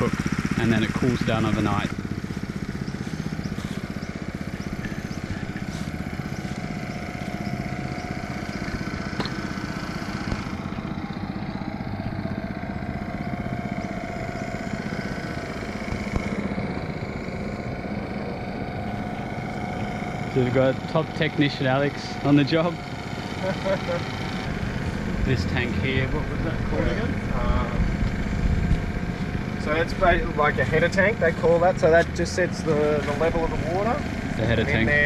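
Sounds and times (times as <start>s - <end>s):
small engine water pump running: 0.0s - 35.0s.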